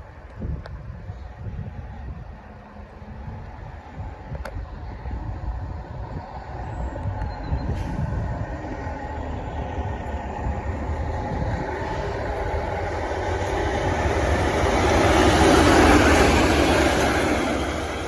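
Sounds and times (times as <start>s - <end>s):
diesel locomotive engine rumble: 0.0s - 18.0s
wheels on rail: 0.1s - 18.0s.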